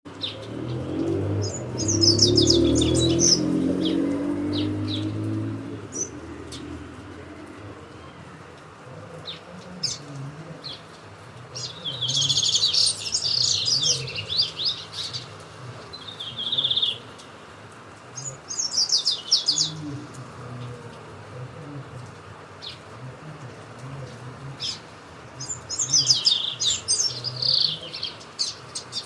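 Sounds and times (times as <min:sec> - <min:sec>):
songbirds chirping and singing: 0:00.1 - 0:29.0.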